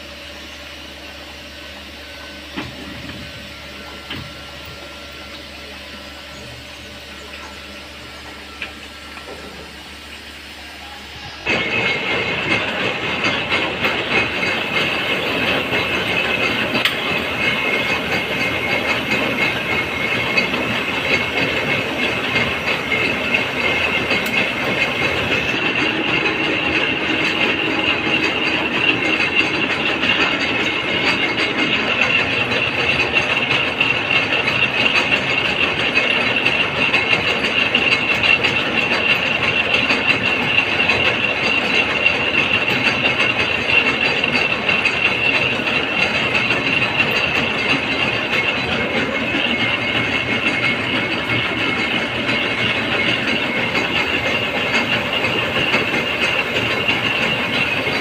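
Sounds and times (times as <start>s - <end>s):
metalworking machine rattling and whining: 0.0s - 58.0s.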